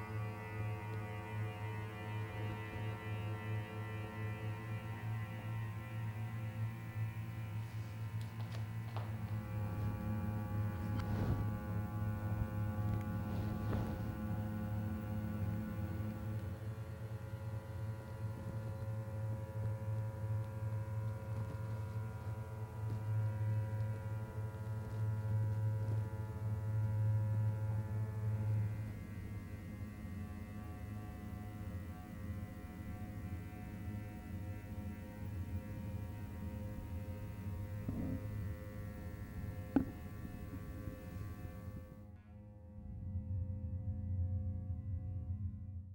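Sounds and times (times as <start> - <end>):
neon tubes humming: 0.0 - 23.2, 23.9 - 42.1.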